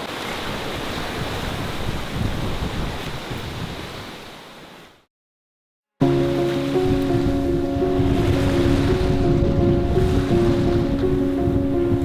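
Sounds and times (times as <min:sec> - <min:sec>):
waves and rushing water: 0:00.0 - 0:05.1, 0:06.0 - 0:12.0
wind buffeting microphone: 0:00.4 - 0:04.1, 0:06.0 - 0:12.0.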